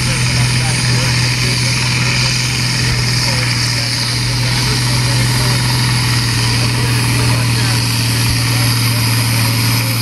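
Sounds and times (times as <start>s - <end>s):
diesel tractor engine under load: 0.0s - 10.0s.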